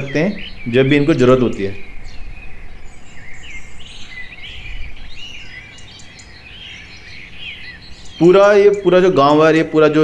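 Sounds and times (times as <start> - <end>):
songbirds chirping and singing: 0.0 - 10.0.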